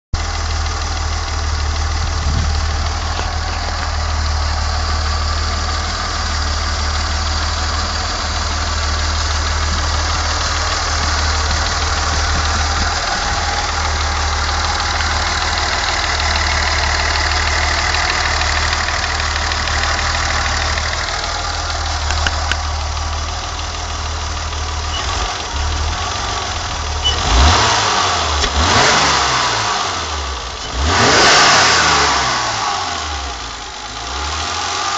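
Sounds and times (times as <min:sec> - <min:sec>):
car engine idling and revving: 0:00.2 - 0:34.9.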